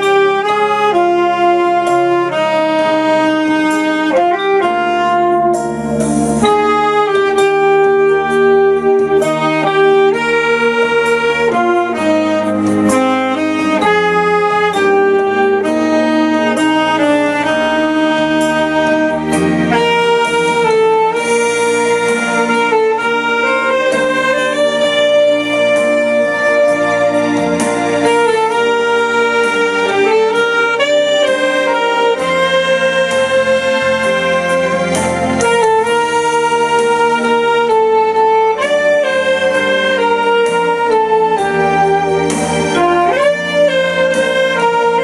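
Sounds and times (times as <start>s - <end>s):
saxophone playing held notes: 0.0s - 45.0s
sustained backing accompaniment: 0.0s - 45.0s.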